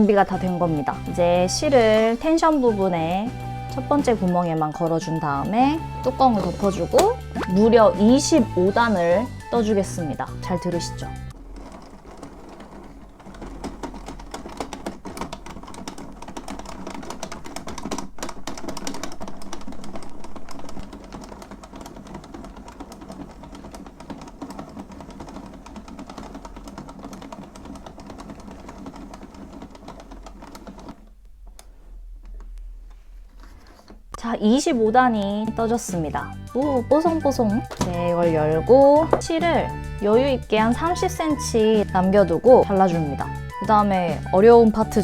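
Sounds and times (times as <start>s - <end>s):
toy knitting machine clicking: 0.0s - 31.1s, 34.6s - 45.0s.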